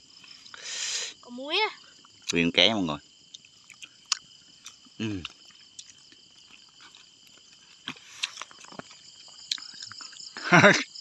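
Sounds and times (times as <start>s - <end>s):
night insects calling: 0.0s - 11.0s.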